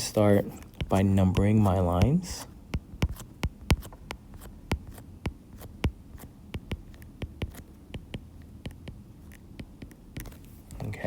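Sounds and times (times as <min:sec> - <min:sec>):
faint electrical hum: 0:00.0 - 0:11.0
pen tapping and clicking: 0:00.6 - 0:10.4.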